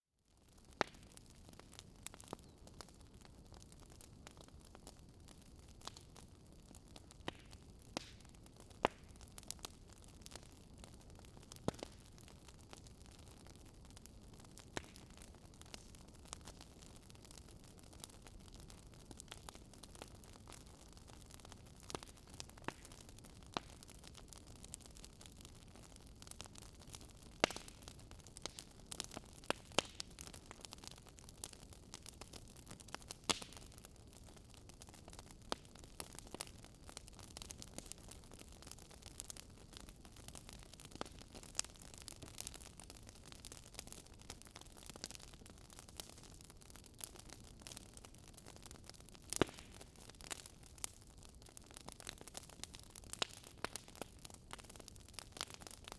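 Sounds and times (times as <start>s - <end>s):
wood fire crackling and popping: 0.4s - 55.9s.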